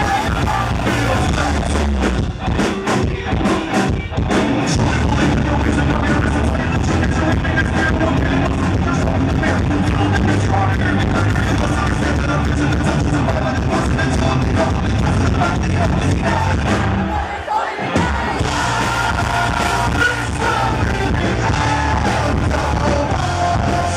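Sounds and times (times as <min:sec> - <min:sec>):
live rock band playing: 0:00.0 - 0:23.9.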